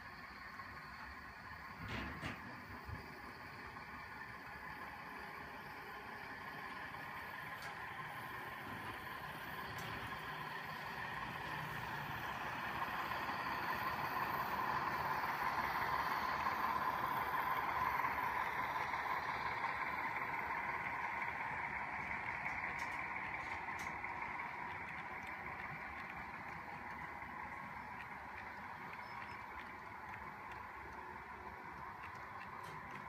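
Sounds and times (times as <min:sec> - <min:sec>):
model train whirring rumble: 0:00.0 - 0:33.0.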